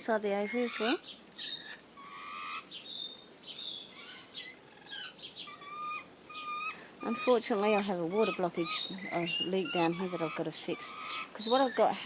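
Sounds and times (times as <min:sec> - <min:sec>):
lorikeets chirping and screeching: 0:00.0 - 0:12.0.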